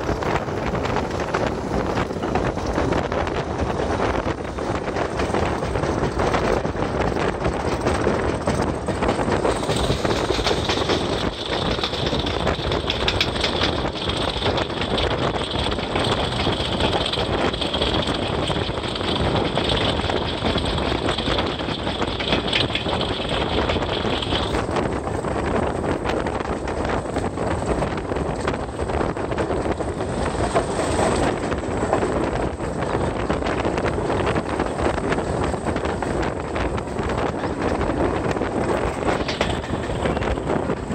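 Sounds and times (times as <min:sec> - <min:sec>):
diesel locomotive engine rumble: 0:00.0 - 0:40.9.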